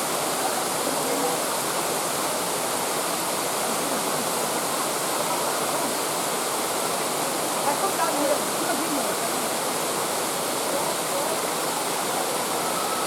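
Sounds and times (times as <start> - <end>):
waterfall cascading into stream: 0.0 - 13.0.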